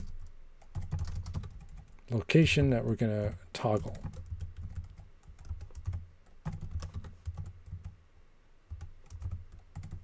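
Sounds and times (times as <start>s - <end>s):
computer keyboard typing: 0.0s - 2.0s, 3.2s - 8.0s, 8.7s - 10.0s.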